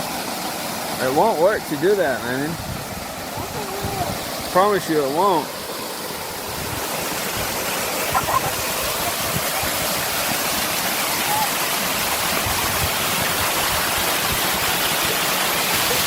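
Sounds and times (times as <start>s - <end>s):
waterfall pouring: 0.0s - 16.0s.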